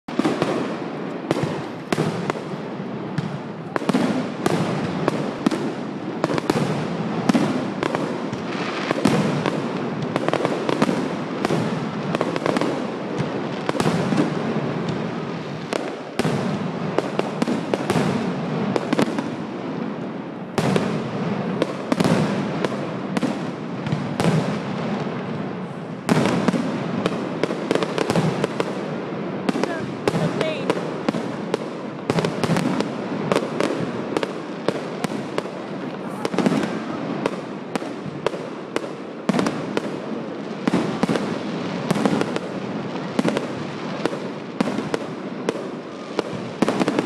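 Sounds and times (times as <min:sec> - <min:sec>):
fireworks crackling: 0:00.1 - 0:47.0.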